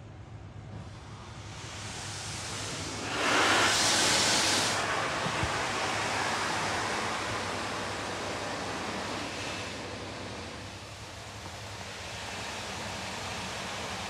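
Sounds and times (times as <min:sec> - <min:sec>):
car wash spray hitting car: 0:02.7 - 0:14.0.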